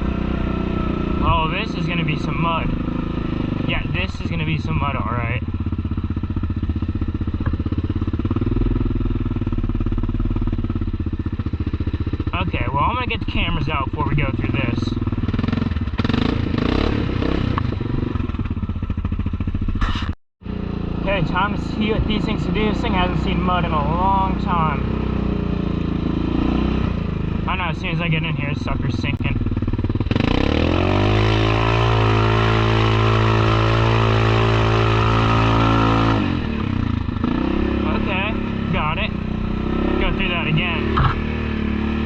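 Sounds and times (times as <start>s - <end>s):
atv engine idling: 0.0s - 42.0s.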